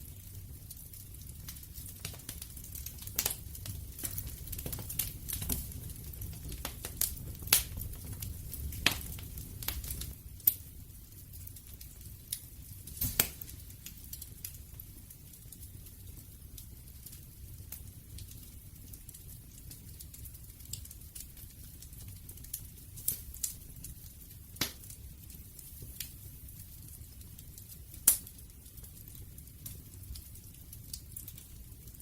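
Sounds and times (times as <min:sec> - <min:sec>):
flames rumbling: 0:00.0 - 0:32.0
wood fire crackling: 0:00.0 - 0:32.0.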